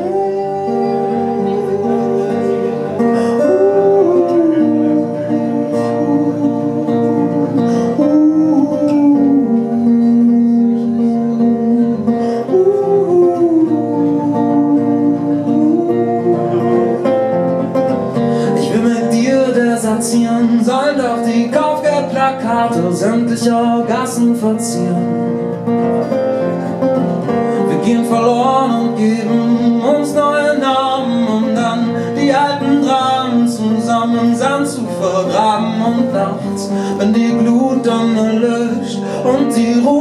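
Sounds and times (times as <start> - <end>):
acoustic guitar strumming: 0.0 - 40.0
man singing: 0.0 - 40.0.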